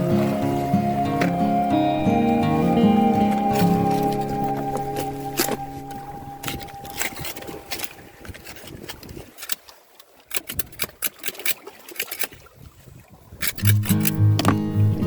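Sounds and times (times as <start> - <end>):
faint water wash: 0.0 - 14.2.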